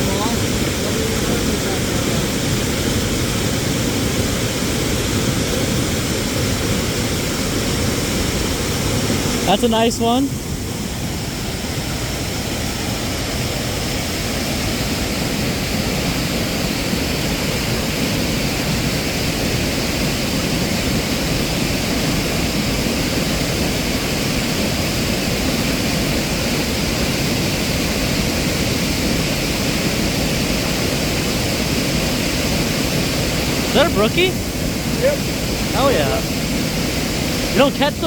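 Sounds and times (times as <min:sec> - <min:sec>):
water rushing over small dam: 0:00.0 - 0:38.0.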